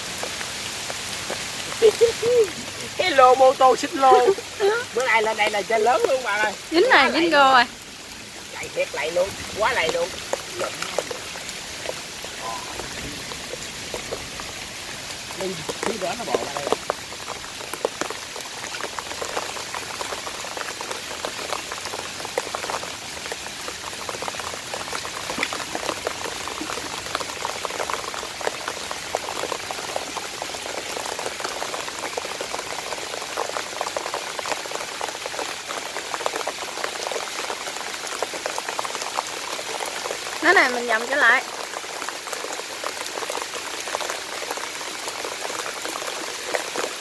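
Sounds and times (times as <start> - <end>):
rain pattering: 0.0 - 47.0.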